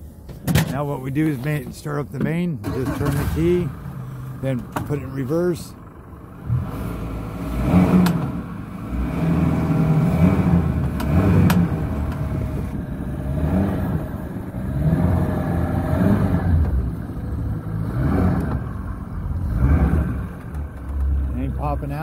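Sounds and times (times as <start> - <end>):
outboard engine revving: 2.6 - 22.0.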